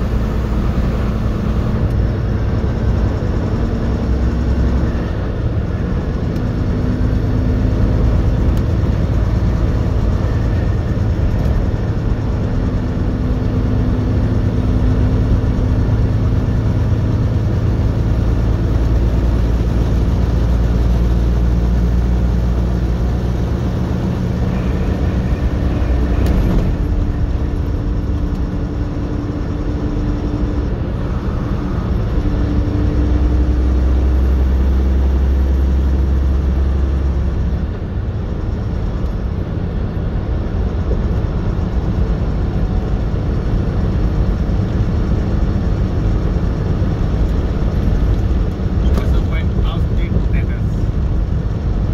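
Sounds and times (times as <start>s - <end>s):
truck diesel engine drone: 0.0s - 51.9s.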